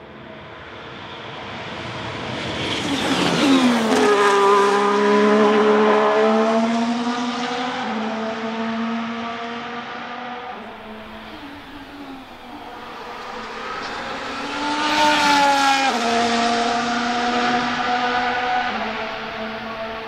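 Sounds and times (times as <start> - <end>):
race car passing at speed: 0.3 - 20.0.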